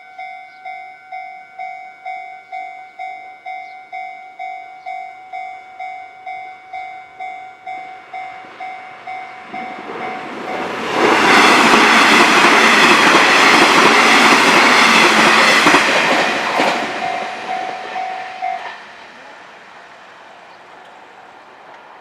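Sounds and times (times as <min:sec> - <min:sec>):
crossing warning bell ringing: 0:00.0 - 0:19.4
electric train passing: 0:00.0 - 0:22.0.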